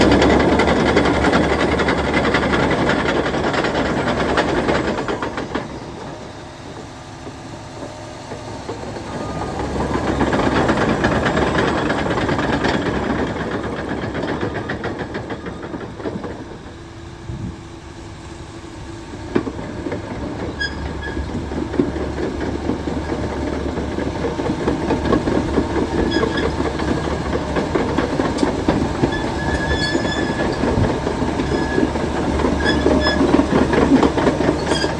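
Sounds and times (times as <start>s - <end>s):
track squeaks: 0.0s - 17.2s, 19.2s - 34.9s
diesel engine running: 0.0s - 34.9s
steel tracks clanking: 0.0s - 34.9s.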